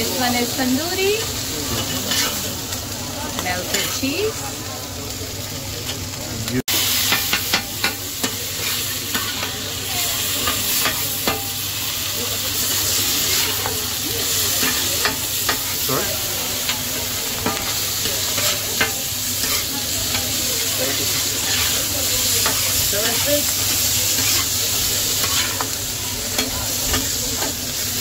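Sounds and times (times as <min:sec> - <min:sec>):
chicken sizzling on a griddle: 0:00.0 - 0:28.0.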